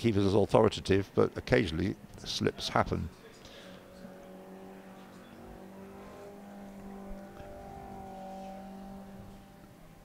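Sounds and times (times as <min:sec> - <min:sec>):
racing car engine running: 0:01.4 - 0:10.0.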